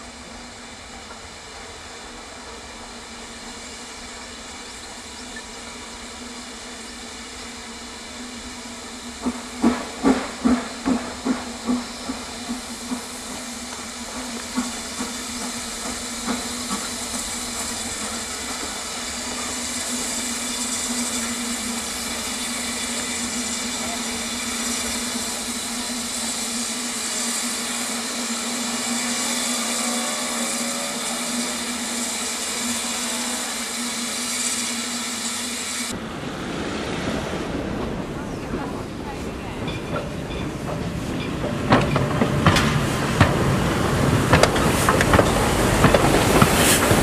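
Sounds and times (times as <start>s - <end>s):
steam hissing: 0.0s - 47.0s.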